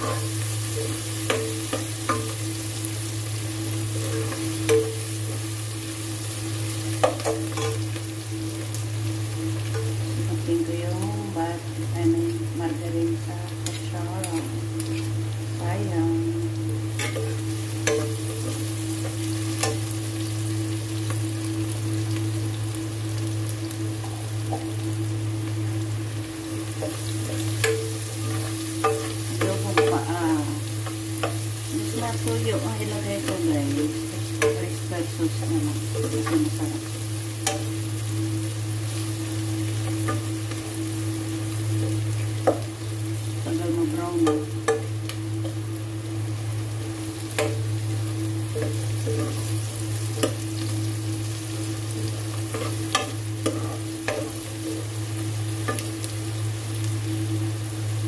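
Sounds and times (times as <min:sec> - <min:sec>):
food sizzling in a frying pan: 0:00.0 - 0:58.0
steady low hum: 0:00.0 - 0:58.0.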